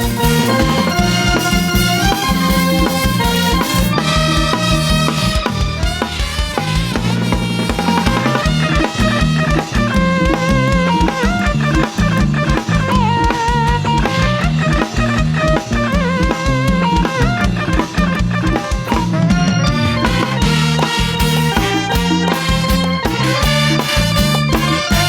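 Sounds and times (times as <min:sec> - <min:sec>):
drum kit beat: 0:00.0 - 0:25.0
repeating bass line: 0:00.0 - 0:25.0
wavering horn melody: 0:00.0 - 0:25.0.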